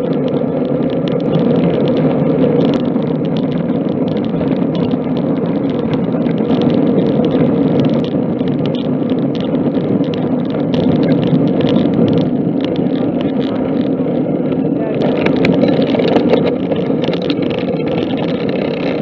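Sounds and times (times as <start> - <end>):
bike tyre road noise: 0.0 - 19.0
faint ticks and rattles: 0.0 - 19.0
wind buffeting microphone: 0.0 - 19.0.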